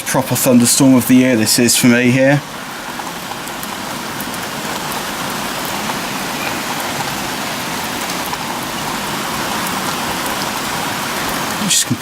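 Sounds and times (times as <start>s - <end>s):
drops ticking nearby: 0.0s - 12.0s
heavy rain downpour: 0.0s - 12.0s.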